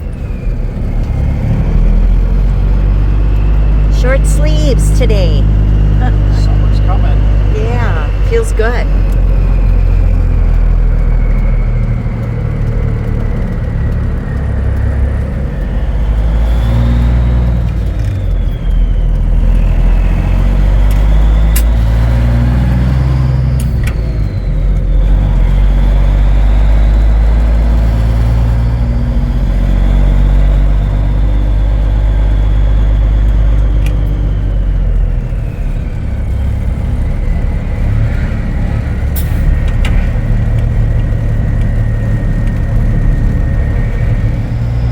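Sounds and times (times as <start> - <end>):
truck diesel engine under load: 0.0 - 44.9.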